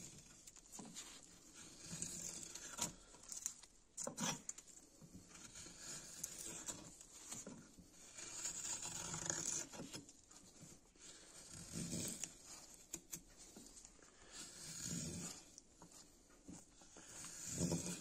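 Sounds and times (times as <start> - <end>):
knife carving wood: 0.0 - 18.0.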